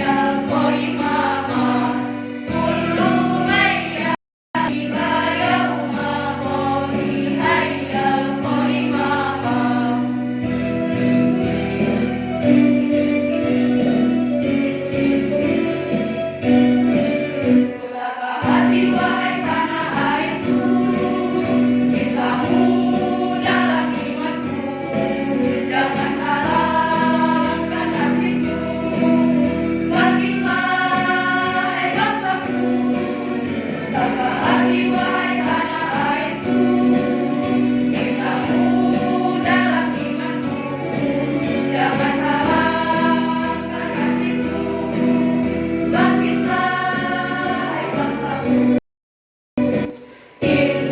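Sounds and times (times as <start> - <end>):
girls' choir singing: 0.0 - 10.2, 17.8 - 48.8, 50.4 - 50.9
instrumental accompaniment: 0.0 - 48.8, 49.6 - 50.9.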